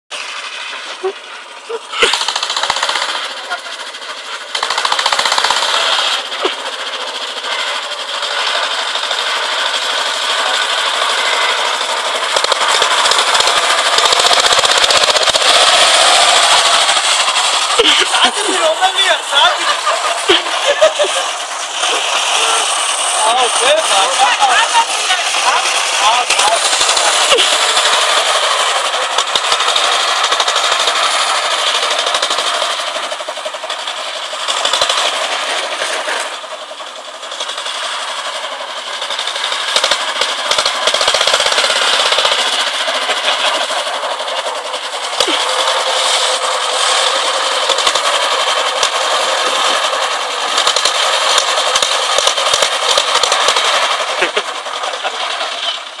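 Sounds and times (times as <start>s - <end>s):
small engine rattling clatter: 0.1s - 56.0s.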